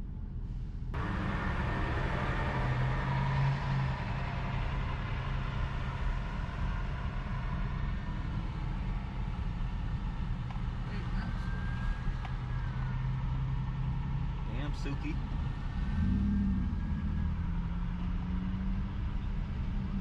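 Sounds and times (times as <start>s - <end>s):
truck engine hum inside cab: 0.0s - 20.0s.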